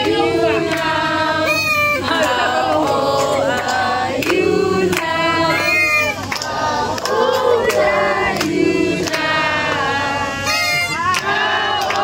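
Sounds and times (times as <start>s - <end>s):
hands clapping: 0.0s - 0.9s, 2.1s - 9.9s, 10.7s - 12.0s
group singing: 0.0s - 12.0s.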